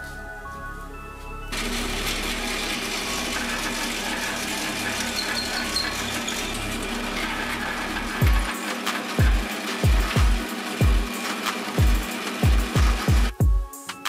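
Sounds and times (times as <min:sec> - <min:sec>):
drill press boring into wood: 0:01.5 - 0:13.3.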